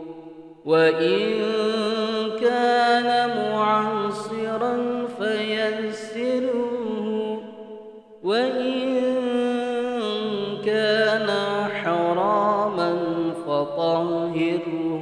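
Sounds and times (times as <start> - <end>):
man chanting melodic recitation: 0.7 - 7.4, 8.2 - 15.0.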